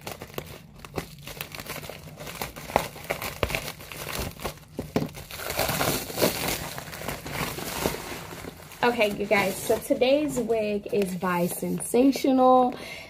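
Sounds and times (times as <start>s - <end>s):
plastic mailer crinkling: 0.0s - 12.2s.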